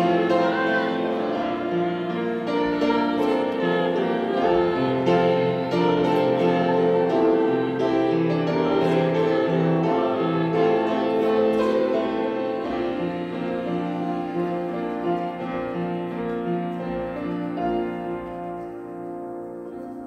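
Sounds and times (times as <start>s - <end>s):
grand piano chords: 0.0s - 20.0s.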